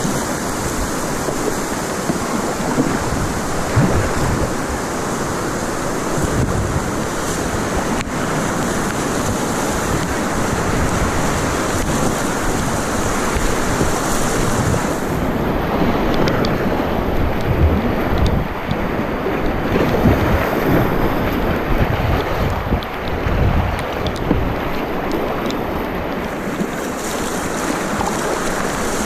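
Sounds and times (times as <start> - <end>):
water around kayak: 0.0 - 29.0
wind buffeting microphone: 0.0 - 29.0.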